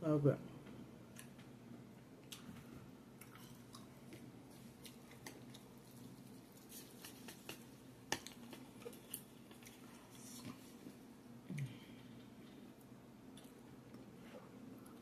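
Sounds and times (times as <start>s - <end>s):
low steady hum: 0.0s - 15.0s
soft chewing: 0.6s - 15.0s.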